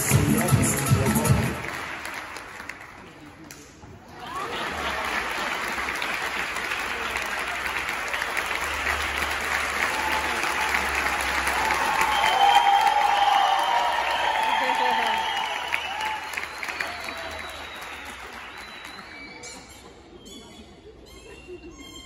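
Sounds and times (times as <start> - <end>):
audience applauding: 0.0 - 3.5, 4.1 - 19.7.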